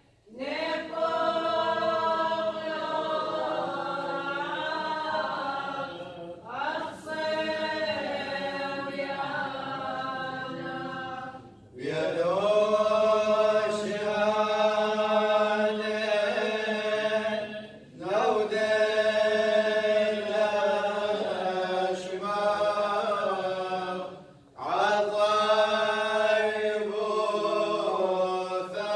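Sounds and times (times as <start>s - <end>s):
choir chanting: 0.0s - 28.9s.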